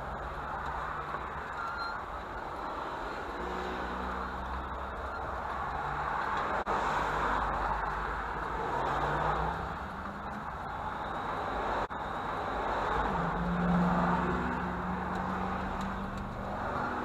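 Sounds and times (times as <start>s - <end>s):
pickup truck engine: 0.0s - 17.0s
road noise: 0.0s - 17.0s.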